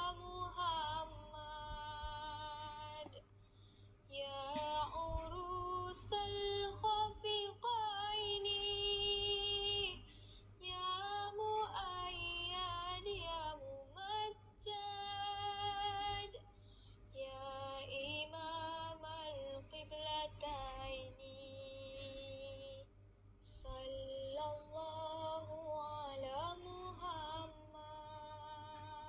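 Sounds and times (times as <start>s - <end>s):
woman singing slow melody: 0.0s - 3.2s, 4.1s - 16.4s, 17.1s - 29.0s.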